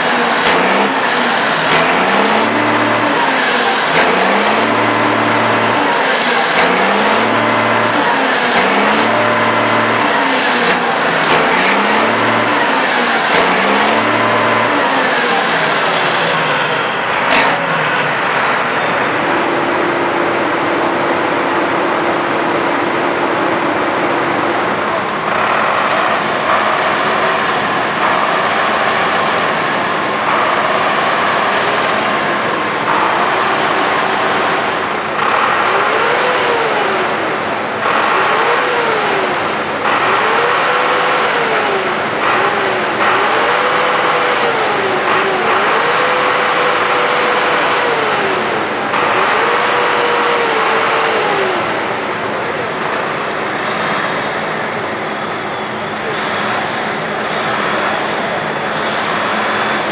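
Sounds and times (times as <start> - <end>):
farm machine engine revving: 0.0 - 59.9.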